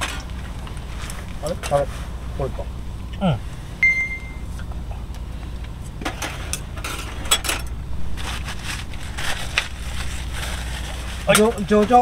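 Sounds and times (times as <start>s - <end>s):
wood fire in stove: 0.0s - 3.7s, 4.4s - 12.0s
steady low rumble: 0.0s - 11.9s.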